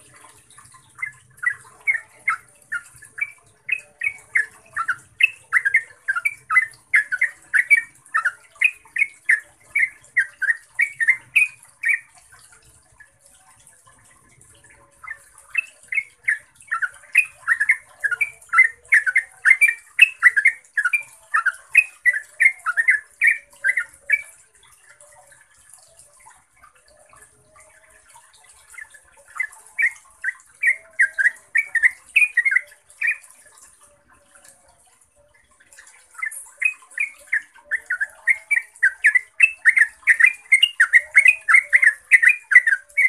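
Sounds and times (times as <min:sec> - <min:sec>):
bird singing rolling song: 0:00.0 - 0:12.4, 0:13.9 - 0:43.0.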